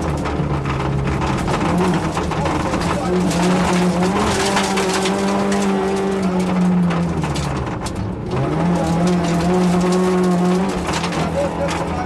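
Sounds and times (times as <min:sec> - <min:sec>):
gravel crackling under car: 0:00.0 - 0:12.0
rally car engine at high revs: 0:00.0 - 0:12.0.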